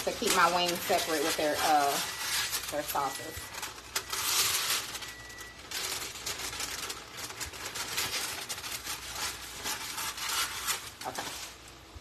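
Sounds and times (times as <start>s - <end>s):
paper crinkling and rustling: 0.0s - 11.8s.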